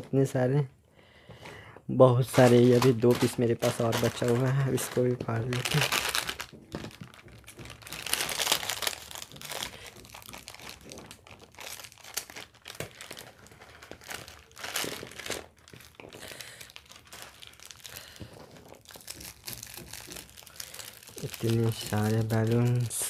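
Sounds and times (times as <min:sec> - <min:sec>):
plastic snack packet crinkling: 0:02.2 - 0:23.0
thin plastic sachet crinkling: 0:02.2 - 0:23.0.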